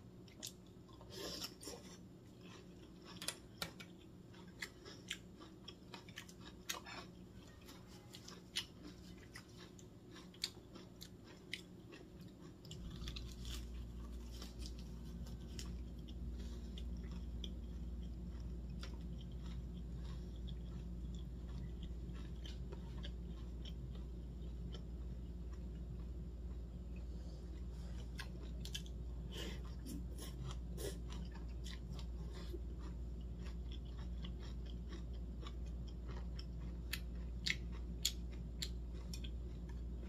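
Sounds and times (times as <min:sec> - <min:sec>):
steady low hum: 0:00.0 - 0:40.0
wet chewing and crunching: 0:00.2 - 0:40.0.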